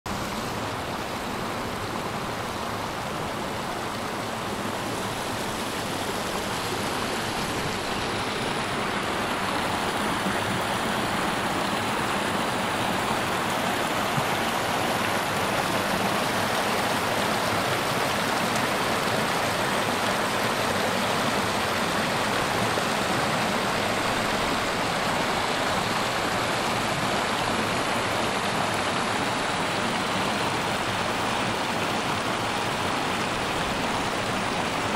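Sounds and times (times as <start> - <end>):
creek water rushing over stones: 0.1 - 34.9.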